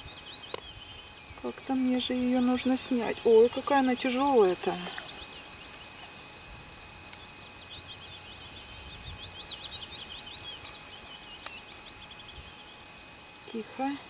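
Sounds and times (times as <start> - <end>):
lakeside background noise: 0.0 - 14.0
small bird singing: 0.0 - 14.0.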